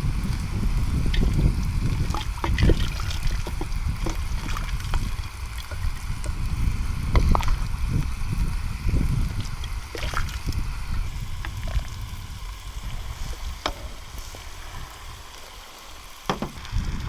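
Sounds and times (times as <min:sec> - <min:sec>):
small water splashes: 0:00.0 - 0:16.9
water gurgling and trickling: 0:00.0 - 0:17.0.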